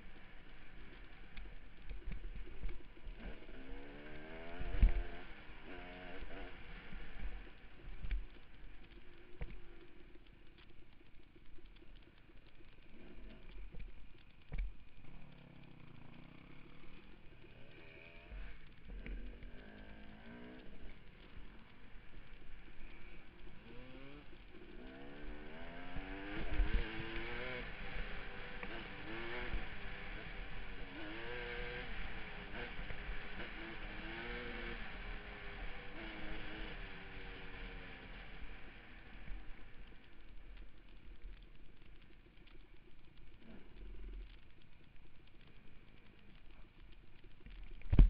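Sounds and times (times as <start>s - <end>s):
off-road motorcycle engine: 0.0s - 48.0s.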